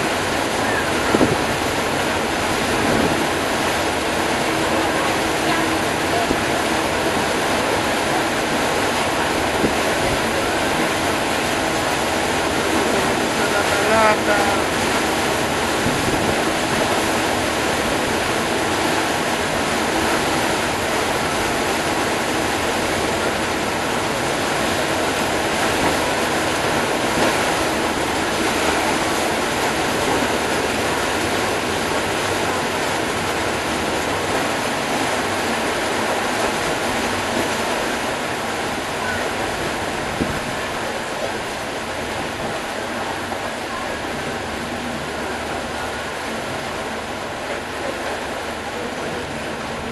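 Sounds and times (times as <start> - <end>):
water rushing by a boat: 0.0 - 49.9.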